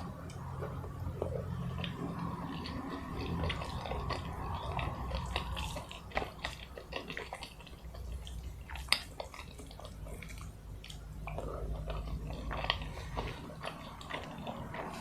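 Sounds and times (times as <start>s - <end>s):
low steady hum: 0.0s - 15.0s
person chewing food: 0.0s - 15.0s.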